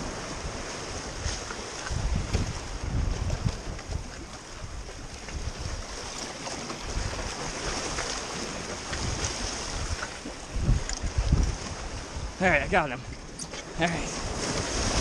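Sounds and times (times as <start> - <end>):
waves breaking over rocks: 0.0 - 15.0
wind buffeting microphone: 0.0 - 15.0.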